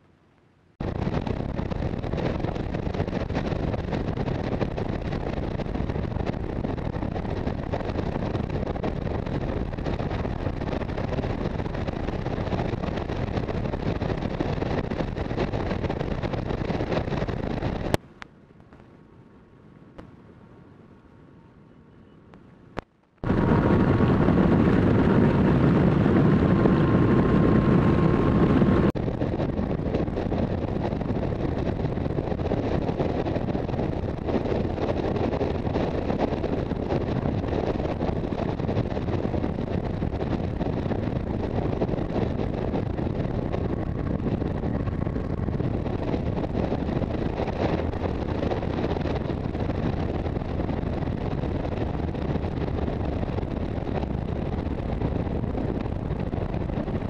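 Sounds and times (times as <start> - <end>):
road and engine noise: 0.0 - 57.0
wind rushing over camera: 0.0 - 57.0.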